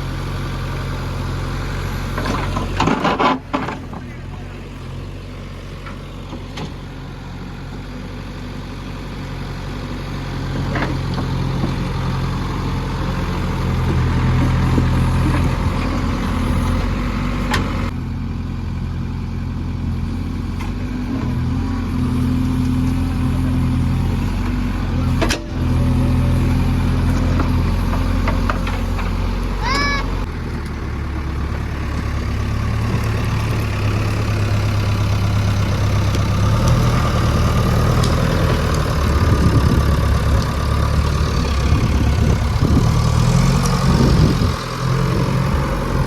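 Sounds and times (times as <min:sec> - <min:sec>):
diesel engine under load: 0:00.0 - 0:46.0.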